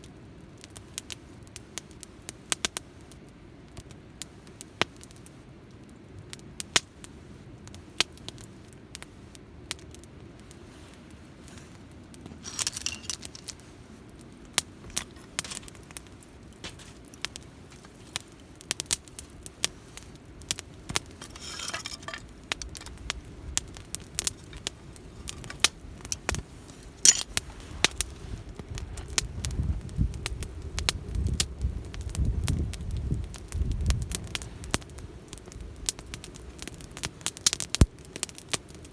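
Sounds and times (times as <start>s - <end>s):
campfire crackling and popping: 0.0s - 38.9s
burning wood hissing: 4.1s - 38.9s.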